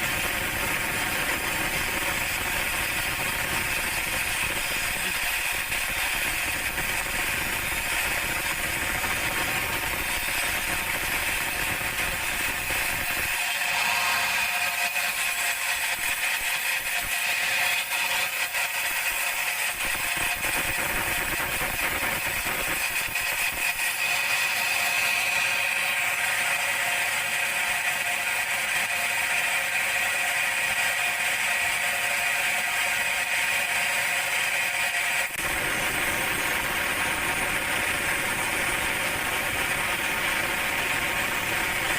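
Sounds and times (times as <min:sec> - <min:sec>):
band sawmill whining: 0:00.0 - 0:20.6, 0:21.9 - 0:41.9.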